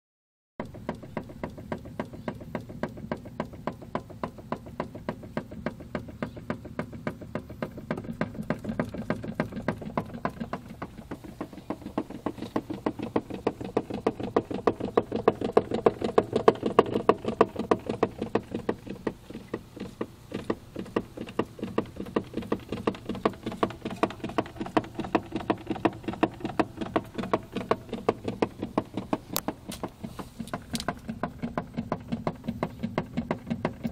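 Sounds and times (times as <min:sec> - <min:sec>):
power steering pulsing hum: 0:00.6 - 0:33.9.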